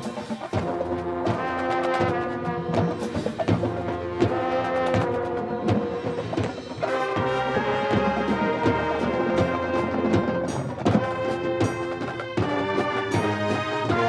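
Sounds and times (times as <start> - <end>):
drum and timpani strikes: 0.0 - 14.0
marching band playing: 0.0 - 14.0.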